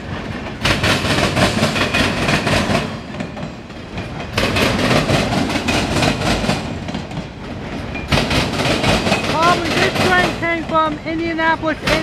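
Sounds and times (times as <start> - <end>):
train wheels clacking over rail joints: 0.0 - 12.0.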